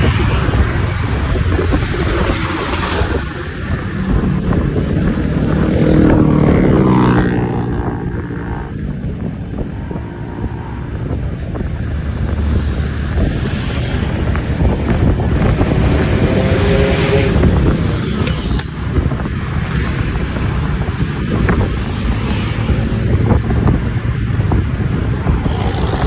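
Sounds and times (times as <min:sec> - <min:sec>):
road traffic noise: 0:00.0 - 0:26.0
wind buffeting microphone: 0:00.0 - 0:26.0.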